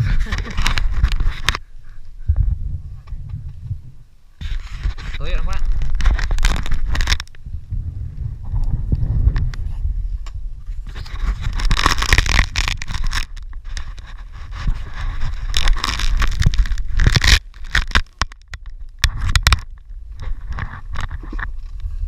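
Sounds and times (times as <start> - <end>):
scraping and crackling knocks: 0.0 - 1.6, 4.4 - 7.5, 8.4 - 22.0
dirt bike engine rumble: 0.0 - 17.7.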